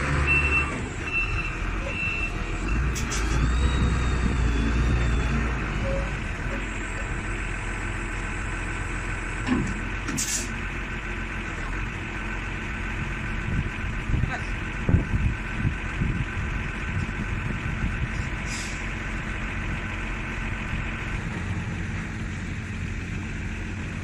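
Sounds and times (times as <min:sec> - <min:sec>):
diesel forklift engine idling: 0:03.4 - 0:24.0.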